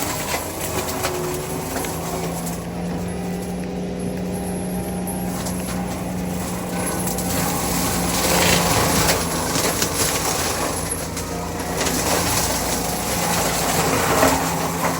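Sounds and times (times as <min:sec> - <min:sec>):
diesel engine running: 0:00.0 - 0:14.9
mulcher shredding brush and wood: 0:00.0 - 0:14.9.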